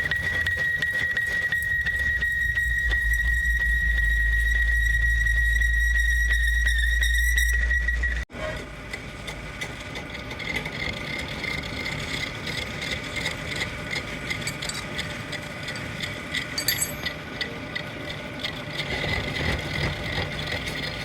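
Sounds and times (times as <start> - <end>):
machinery running: 0.0 - 21.0.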